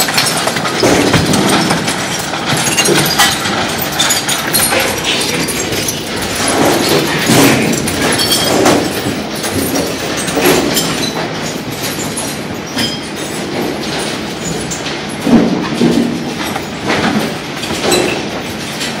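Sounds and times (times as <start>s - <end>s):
conveyor machinery din: 0.0s - 19.0s.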